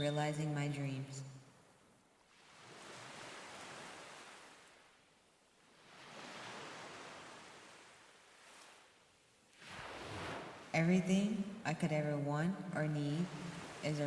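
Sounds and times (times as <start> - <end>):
ocean waves: 0.0 - 14.0.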